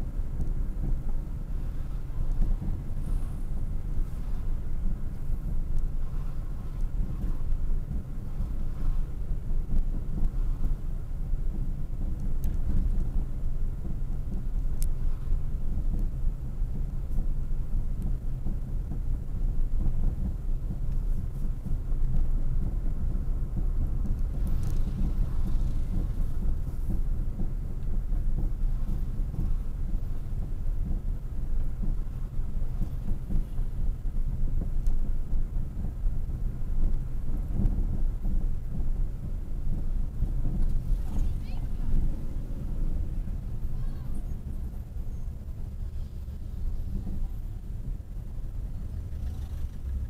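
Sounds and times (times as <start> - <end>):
car driving rumble from inside: 0.0 - 50.0.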